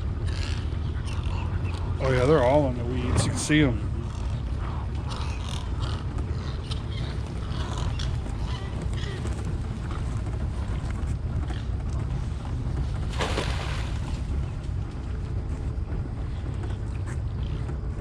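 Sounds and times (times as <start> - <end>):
boat rumbling on water: 0.0 - 18.0.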